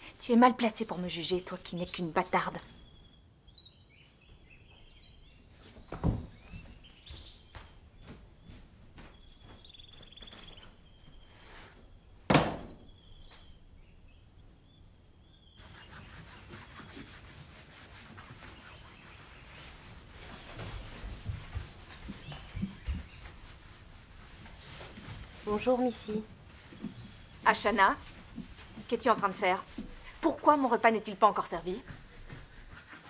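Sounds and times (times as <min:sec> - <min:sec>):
birds chirping: 0:01.4 - 0:33.0.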